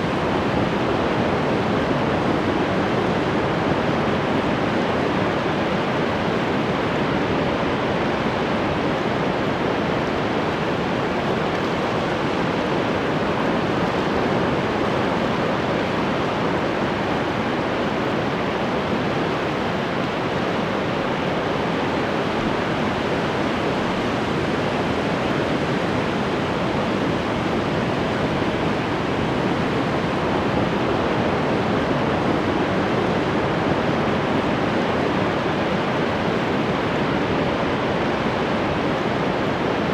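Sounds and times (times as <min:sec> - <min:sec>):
ocean surf roaring: 0:00.0 - 0:39.9.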